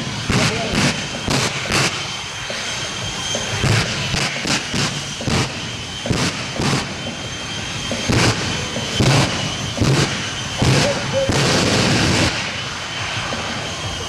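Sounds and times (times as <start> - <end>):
jet engine rush with whine: 0.0 - 14.0
afterburner pops: 0.2 - 2.7, 3.4 - 14.0.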